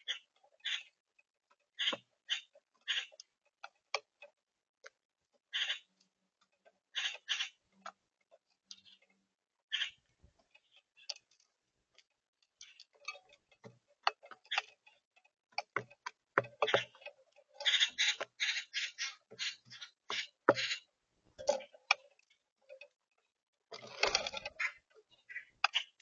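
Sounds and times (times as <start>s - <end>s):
sharp irregular clicks and taps: 0.0s - 26.0s.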